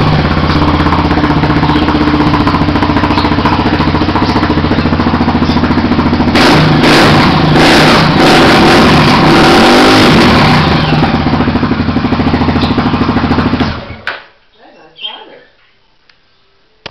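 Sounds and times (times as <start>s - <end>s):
motorcycle engine idling and revving: 0.0s - 14.1s.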